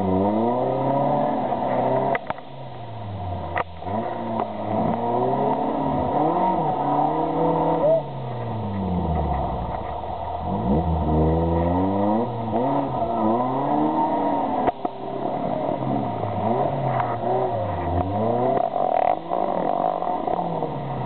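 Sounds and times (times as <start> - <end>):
engine revving under load: 0.0 - 2.4, 3.4 - 21.0.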